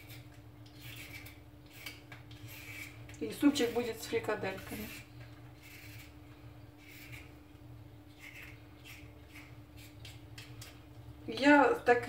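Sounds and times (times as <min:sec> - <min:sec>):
vegetable peeler scraping: 0:00.0 - 0:07.5, 0:08.1 - 0:10.8
faint steady hum: 0:00.0 - 0:12.0.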